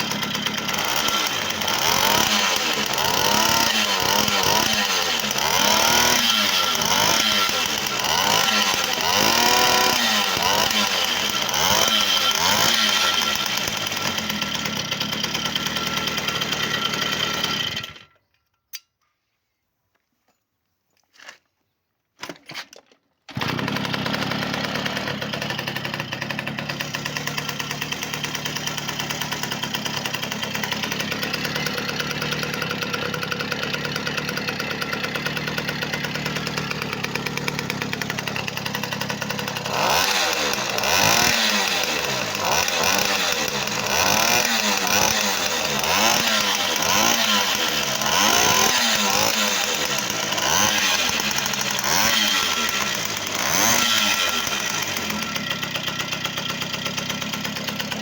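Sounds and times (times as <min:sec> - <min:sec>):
small engine idling and revving: 0:00.0 - 0:18.2, 0:23.3 - 0:58.0.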